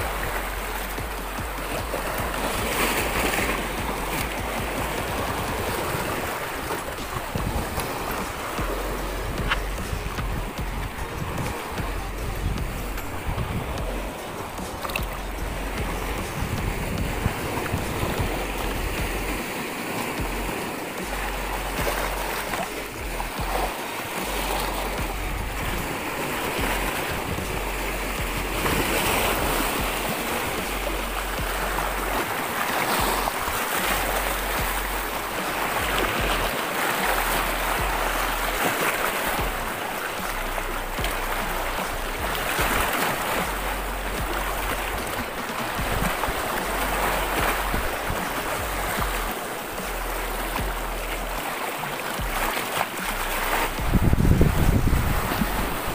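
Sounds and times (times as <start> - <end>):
sea waves over rocky shore: 0.0 - 55.9.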